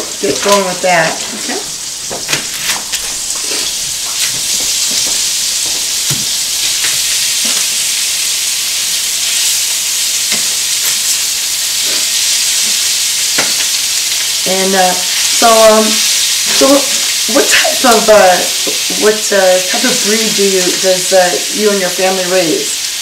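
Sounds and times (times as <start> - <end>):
meat sizzling in a skillet: 0.0 - 23.0.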